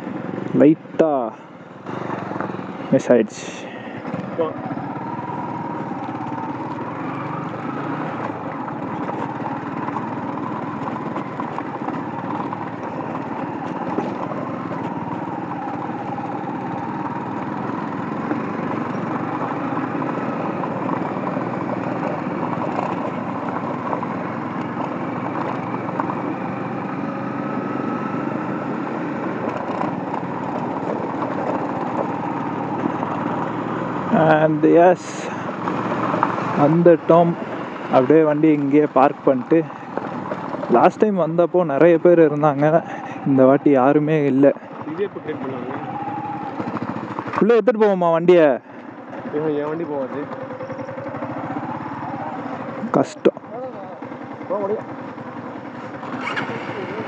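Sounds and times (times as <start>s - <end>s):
motorcycle engine running at low speed: 0.0s - 57.0s.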